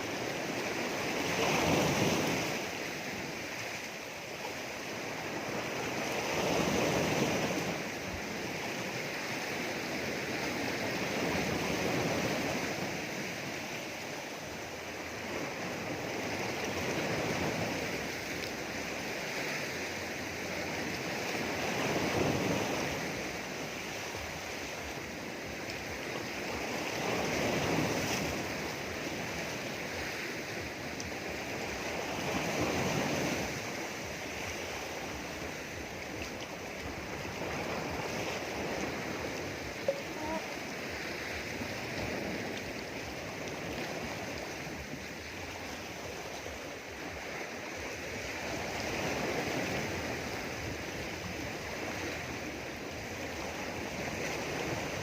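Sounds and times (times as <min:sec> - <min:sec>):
sea waves washing around rocks: 0:00.0 - 0:55.0.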